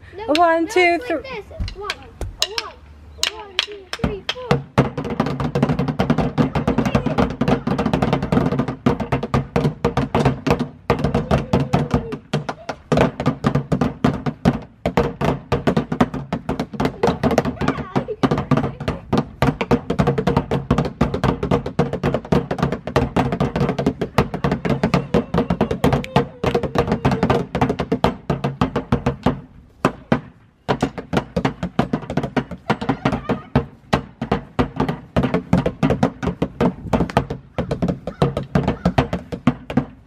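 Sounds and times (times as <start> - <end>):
sticks drumming on plastic bins: 1.6 - 40.0.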